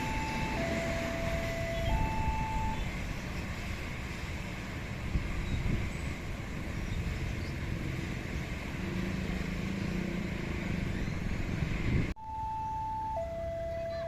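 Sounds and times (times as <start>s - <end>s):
rumble of passing vehicles: 0.0s - 14.0s.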